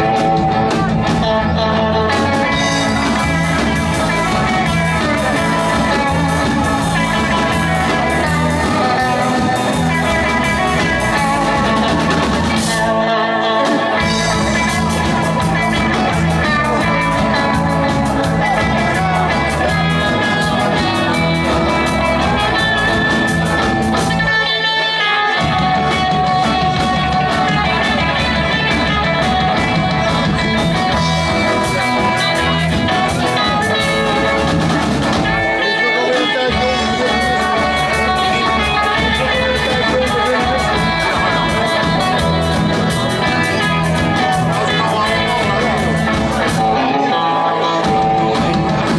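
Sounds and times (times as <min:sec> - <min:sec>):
electric guitar: 0:00.0 - 0:48.9
rock and roll band playing: 0:00.0 - 0:48.9.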